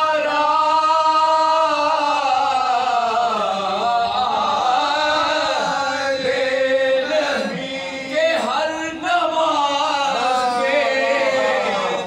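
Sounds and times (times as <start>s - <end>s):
men chanting without instruments: 0.0s - 12.0s.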